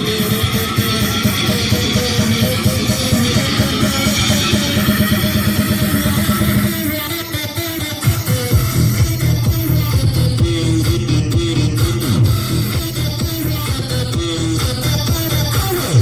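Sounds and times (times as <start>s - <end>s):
loud music with guitar and bass: 0.0s - 16.0s.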